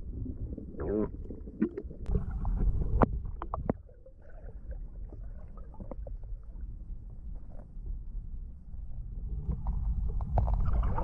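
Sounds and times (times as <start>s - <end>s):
low underwater water rumble: 0.0s - 11.0s.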